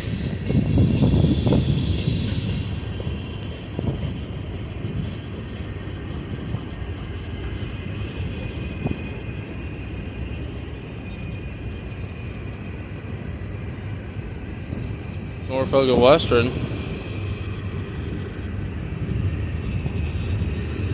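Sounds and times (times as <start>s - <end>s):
freight train rumbling past: 0.0s - 20.9s
rail hiss: 0.0s - 20.9s.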